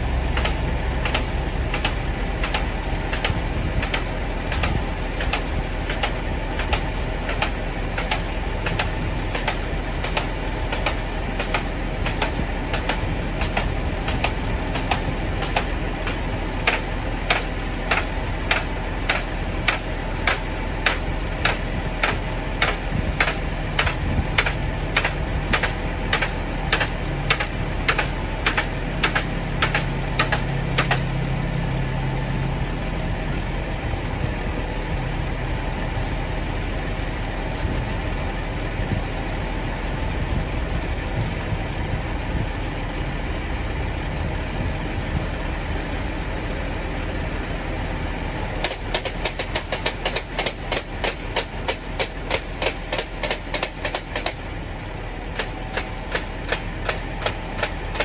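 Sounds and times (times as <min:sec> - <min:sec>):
low steady hum: 0:00.0 - 0:58.0
regular ticking: 0:00.0 - 0:58.0
truck idling: 0:00.0 - 0:58.0.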